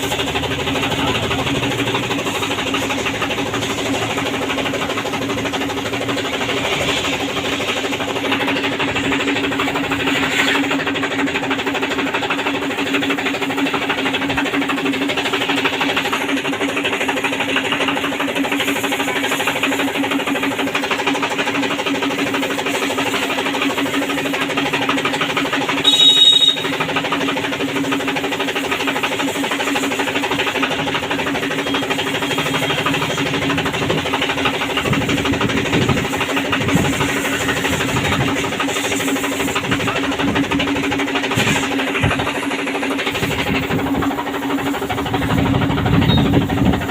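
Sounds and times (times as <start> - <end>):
washing machine motor humming: 0.0 - 46.9.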